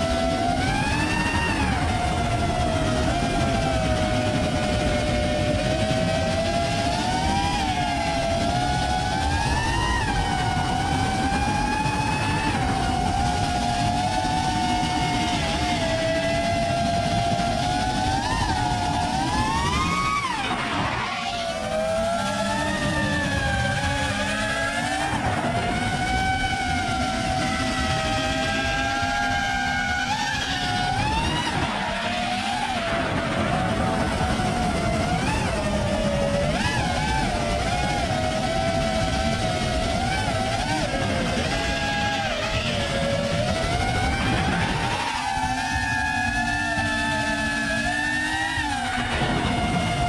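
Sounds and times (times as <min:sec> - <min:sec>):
drone motors whining: 0:00.0 - 0:50.0
propeller wash and wind: 0:00.0 - 0:50.0.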